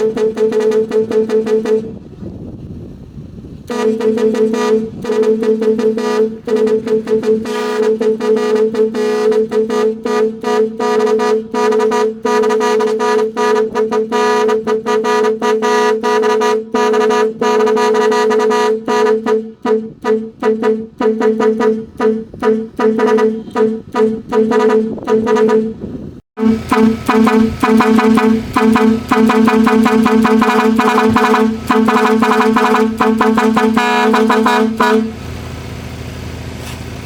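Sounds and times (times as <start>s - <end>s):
stuttering truck air horn: 0.0s - 2.3s, 3.7s - 35.4s.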